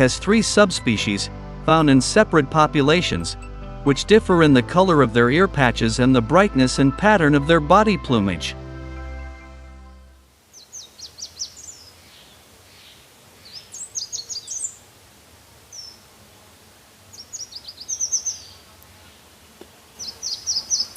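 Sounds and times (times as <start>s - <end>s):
songbird chirping: 0.0s - 14.9s, 17.1s - 19.2s, 20.0s - 20.9s
faint outdoor hiss: 0.0s - 20.9s.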